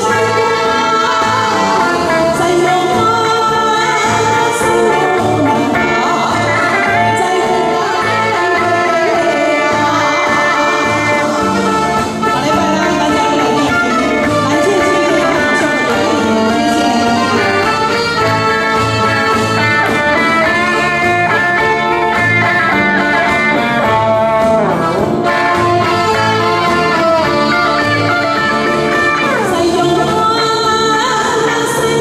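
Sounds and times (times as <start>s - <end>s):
repeating bass line: 0.0s - 30.8s
reed instrument melody: 0.0s - 31.1s
live band playing: 0.0s - 32.0s
woman singing into microphone: 0.0s - 32.0s.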